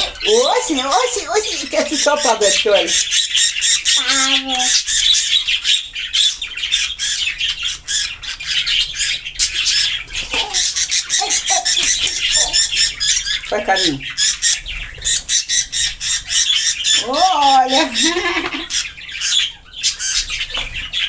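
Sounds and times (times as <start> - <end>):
small birds squawking and chirping: 0.0 - 21.0.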